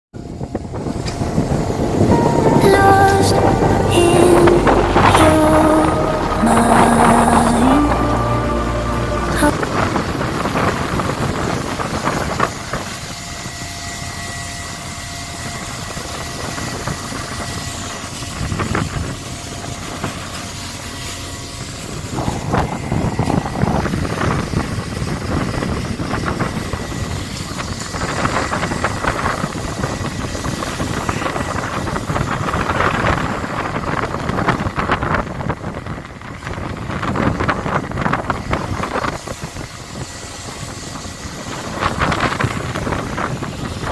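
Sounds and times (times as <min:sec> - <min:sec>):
boat engine and deck machinery: 0:00.2 - 0:43.9.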